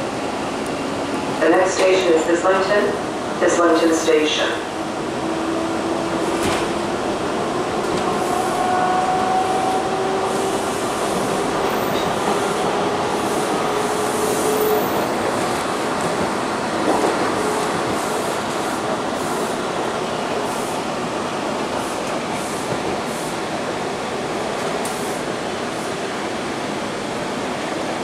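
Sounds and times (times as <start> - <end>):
subway train wheels on rail: 0.0 - 28.0.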